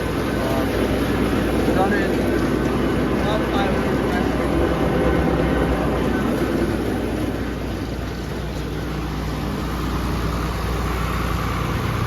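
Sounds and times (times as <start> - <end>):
tractor engines running under load: 0.0 - 12.0.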